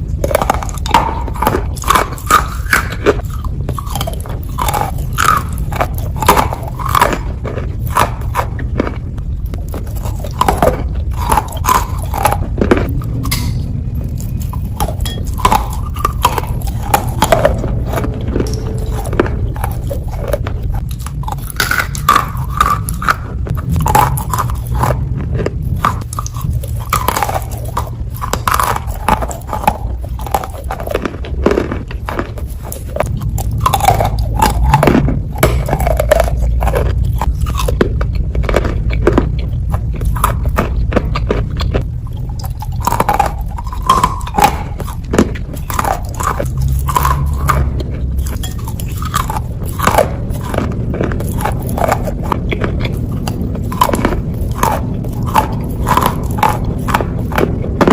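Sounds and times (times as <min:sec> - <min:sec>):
chewing wet clay: 0:00.0 - 0:57.9
low background hum: 0:00.0 - 0:57.9.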